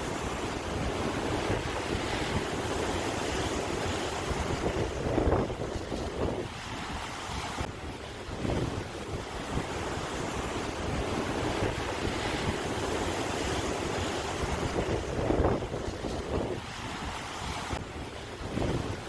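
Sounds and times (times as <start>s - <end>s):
sea waves on shore: 0.0s - 19.0s
wind buffeting microphone: 0.0s - 19.0s.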